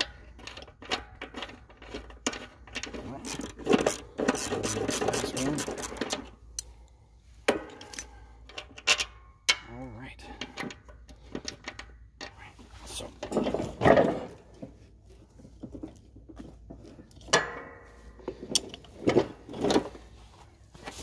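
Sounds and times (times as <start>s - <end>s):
metal clunks and scraping: 0.0s - 6.4s, 7.4s - 21.0s.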